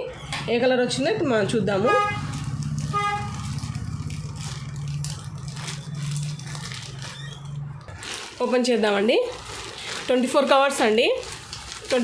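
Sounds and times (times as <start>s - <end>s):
plastic mailer crinkling: 2.2s - 12.0s
scissors cutting plastic: 2.2s - 12.0s.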